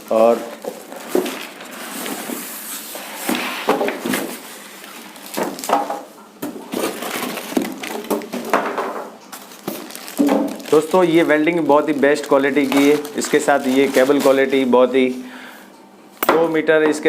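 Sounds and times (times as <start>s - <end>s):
packaging rustling and crinkling: 0.0s - 14.8s.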